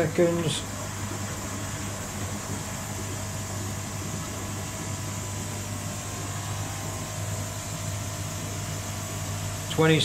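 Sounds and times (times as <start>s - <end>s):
pump electric hum: 0.0s - 10.0s
steady hiss: 0.0s - 10.0s.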